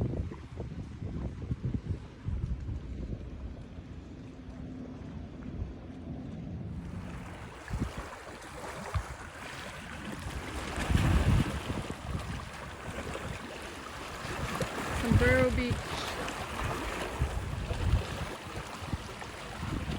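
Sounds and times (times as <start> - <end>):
wind gusting on microphone: 0.0 - 3.9, 6.7 - 19.9
moving water and small waves: 0.0 - 19.9.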